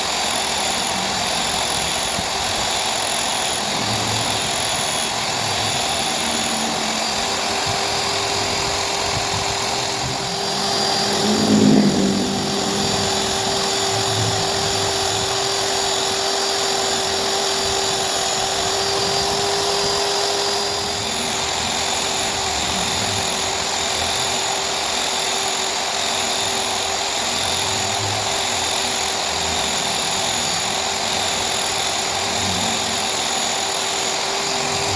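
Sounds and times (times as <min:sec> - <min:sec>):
electric power tool motor running: 0:00.0 - 0:34.9.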